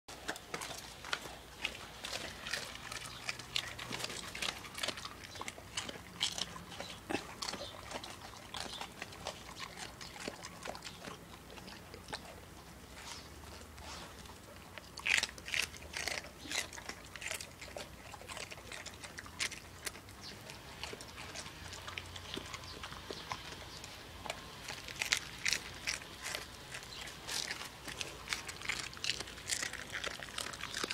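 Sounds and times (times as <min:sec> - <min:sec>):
dog chewing crisp cabbage: 0:00.1 - 0:30.9.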